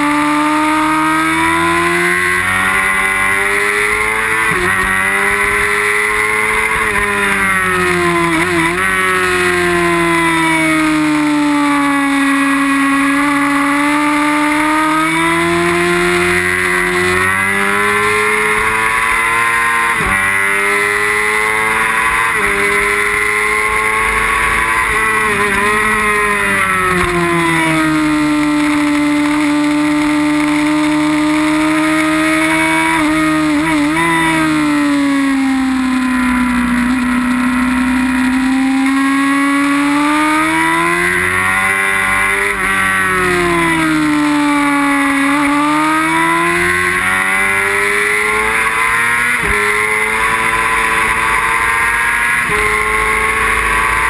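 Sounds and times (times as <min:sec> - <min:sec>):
sport bike engine revving: 0:00.0 - 0:54.0.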